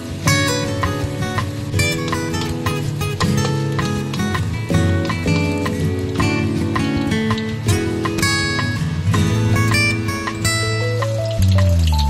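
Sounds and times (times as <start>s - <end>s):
plucked string notes: 0.0s - 12.0s.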